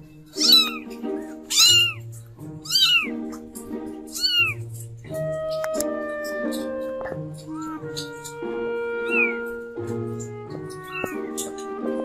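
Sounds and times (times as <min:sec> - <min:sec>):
background music: 0:00.0 - 0:12.0
kittens meowing: 0:00.3 - 0:04.8, 0:05.5 - 0:09.8, 0:10.5 - 0:11.9.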